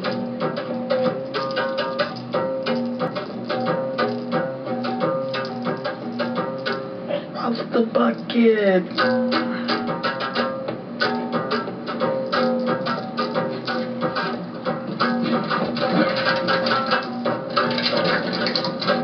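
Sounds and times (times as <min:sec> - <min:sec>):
plucked string music: 0:00.0 - 0:19.0.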